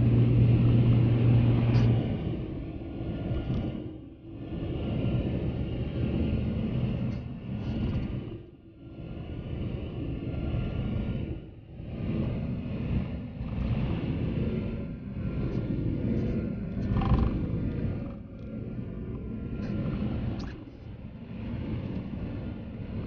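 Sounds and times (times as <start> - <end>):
car tyres and engine rumble: 0.0 - 23.0.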